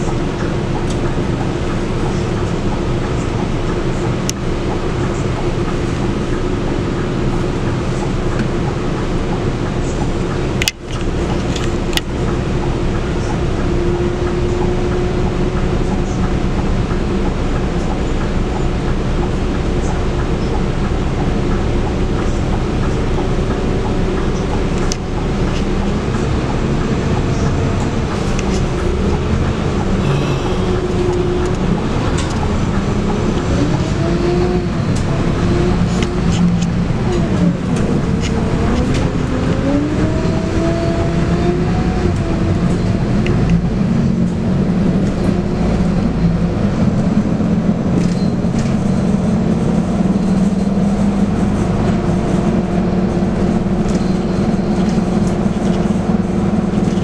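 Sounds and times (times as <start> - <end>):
bus diesel engine: 0.0 - 57.0
road noise: 0.0 - 57.0.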